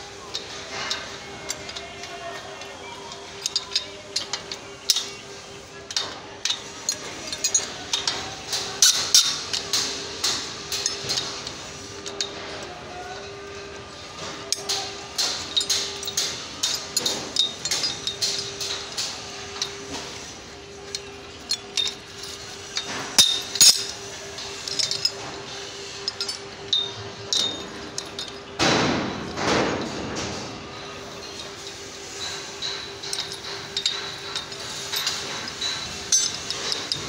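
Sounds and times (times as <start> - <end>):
metal couplers and spanner clinking: 0.3 - 5.2, 5.8 - 13.6, 14.2 - 20.0, 20.8 - 30.3, 31.0 - 37.0.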